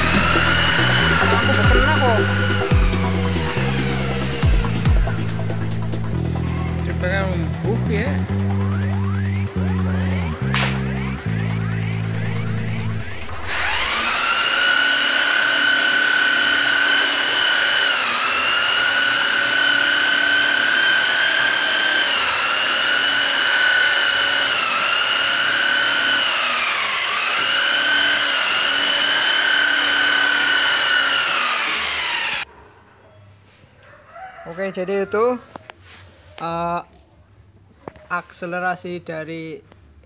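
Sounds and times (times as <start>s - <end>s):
belt sander motor whine: 0.0s - 32.5s.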